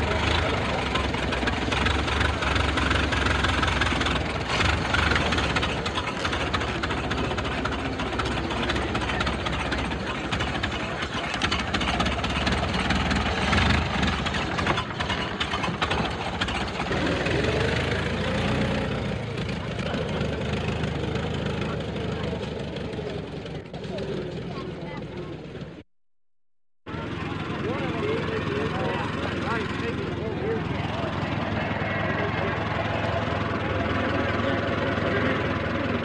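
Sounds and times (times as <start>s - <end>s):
antique car engines passing: 0.0s - 25.8s, 26.9s - 36.0s.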